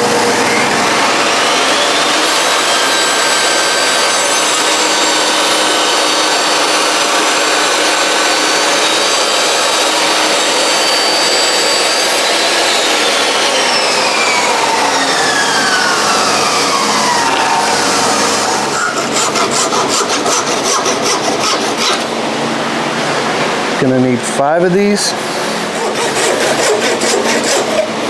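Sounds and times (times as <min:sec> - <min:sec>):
electric power saw whining: 0:00.0 - 0:22.7, 0:25.4 - 0:28.0.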